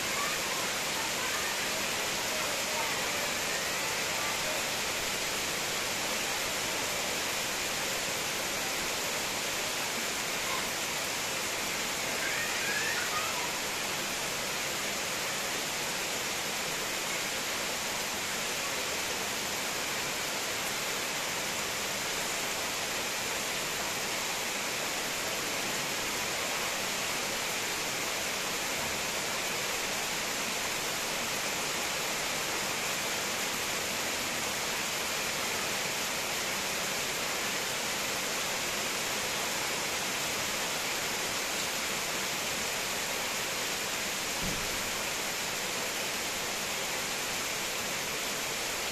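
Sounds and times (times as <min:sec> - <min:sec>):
heavy rain on foliage: 0:00.0 - 0:48.9.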